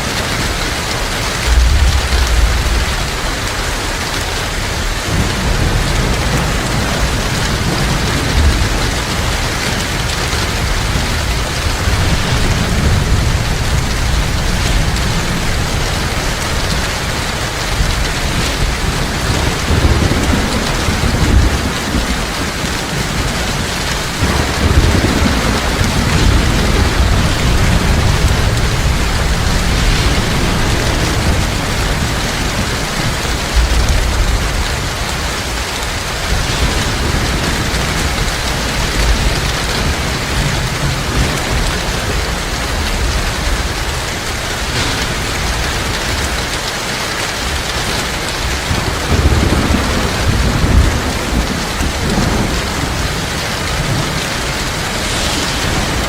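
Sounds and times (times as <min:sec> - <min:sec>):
heavy rain pattering: 0:00.0 - 0:56.0
thunder rumbling: 0:00.0 - 0:56.0.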